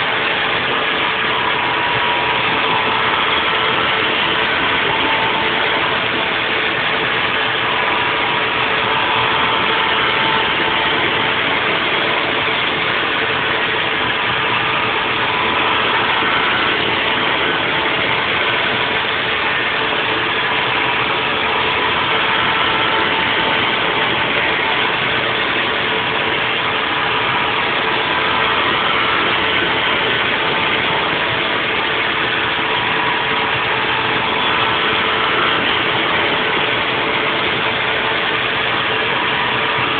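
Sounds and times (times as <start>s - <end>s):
constant hum: 0.0s - 39.9s
milling machine cutting: 0.0s - 39.9s.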